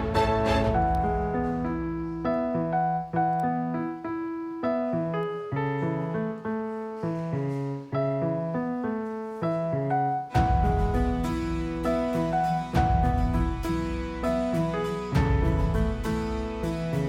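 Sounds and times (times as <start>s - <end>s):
gentle solo piano: 0.7s - 17.0s.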